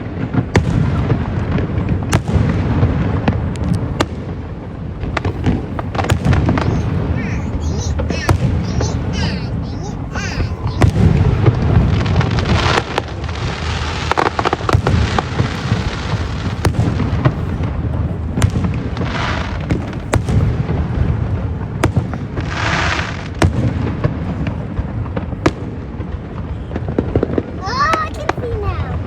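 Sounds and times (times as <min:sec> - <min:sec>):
fireworks booming: 0:00.0 - 0:29.0
fireworks hissing crackle: 0:00.0 - 0:29.0
fireworks sharp cracks: 0:00.0 - 0:29.0.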